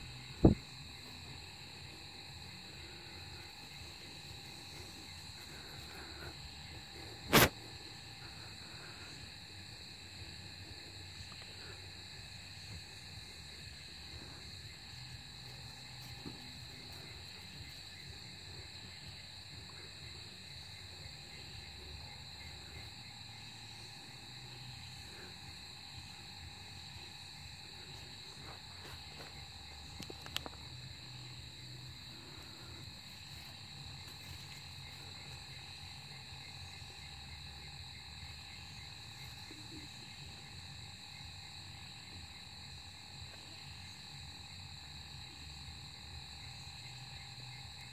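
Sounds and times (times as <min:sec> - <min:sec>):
crickets trilling: 0:00.0 - 0:47.9.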